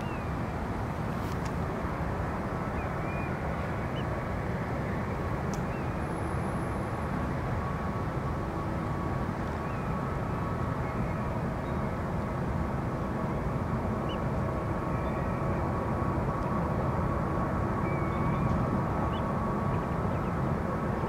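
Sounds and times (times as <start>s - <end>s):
distant jet engine rumble: 0.0s - 21.0s.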